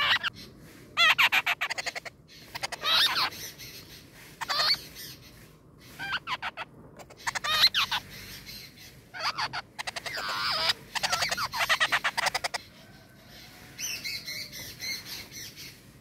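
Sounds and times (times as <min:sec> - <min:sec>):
nestlings begging calls: 0:00.0 - 0:15.8.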